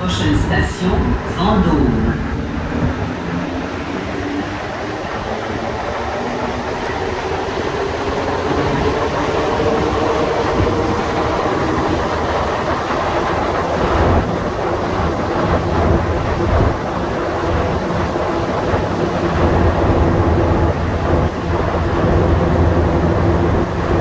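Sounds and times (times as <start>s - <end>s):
train rumbling through tunnel: 0.0s - 24.0s.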